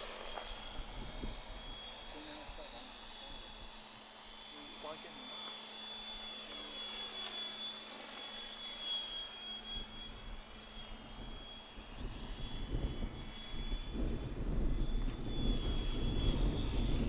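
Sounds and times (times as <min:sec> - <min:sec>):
rc helicopter rotor whining: 0:00.0 - 0:17.0.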